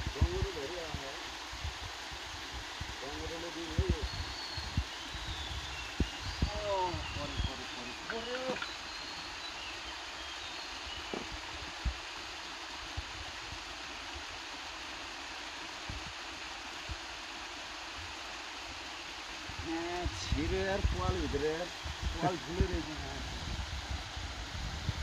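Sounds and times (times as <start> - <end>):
waterfall and stream rushing: 0.1 - 25.0.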